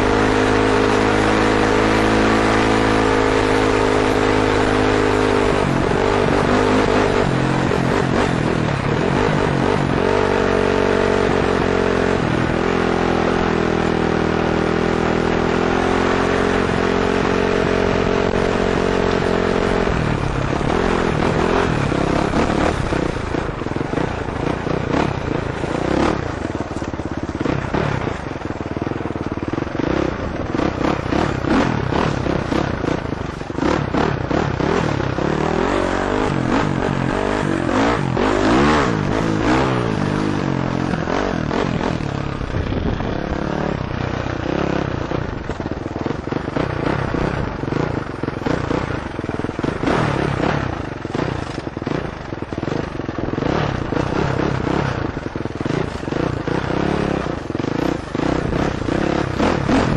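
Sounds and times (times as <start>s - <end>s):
dirt bike engine revving: 0.0s - 59.9s
knocks and clatter over rough ground: 0.1s - 59.9s.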